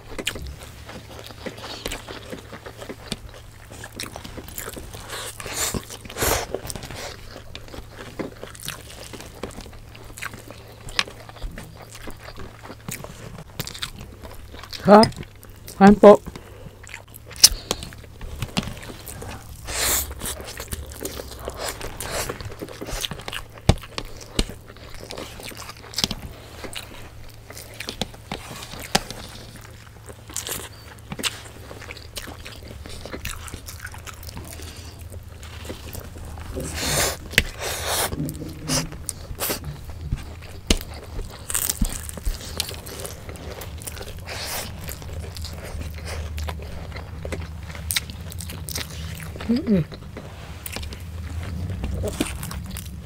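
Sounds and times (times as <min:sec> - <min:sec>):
people chewing food: 0:00.0 - 0:53.0.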